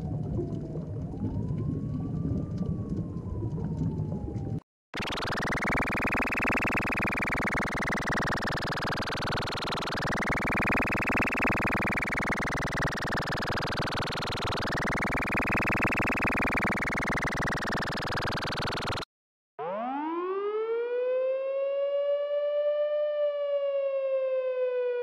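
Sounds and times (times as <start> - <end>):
electronic police siren wailing: 0.4 - 25.0.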